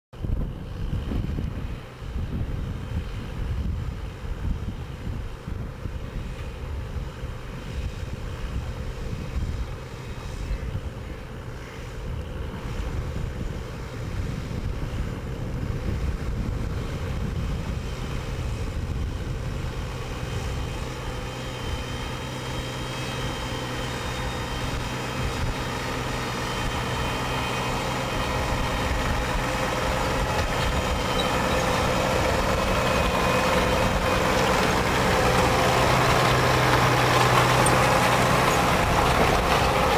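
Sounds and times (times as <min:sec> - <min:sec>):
tractor diesel engine under load: 0:00.2 - 0:39.9.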